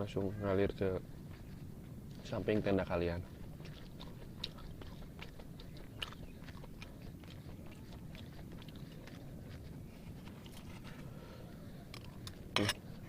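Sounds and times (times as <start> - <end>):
person chewing food: 1.1 - 13.0.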